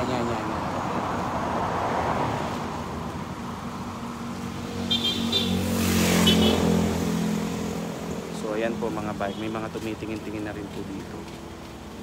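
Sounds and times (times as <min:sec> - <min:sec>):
vehicle passing: 0:00.0 - 0:11.8.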